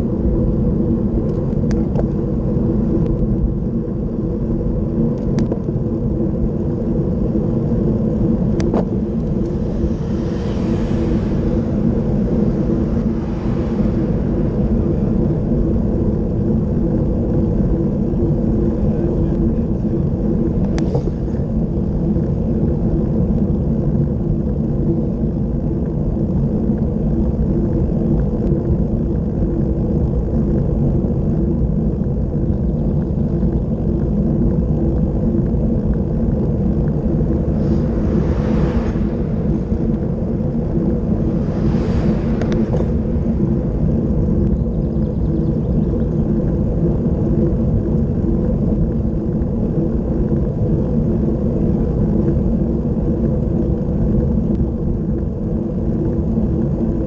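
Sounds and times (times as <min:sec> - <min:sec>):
wind roaring over microphone: 0:00.0 - 0:57.0.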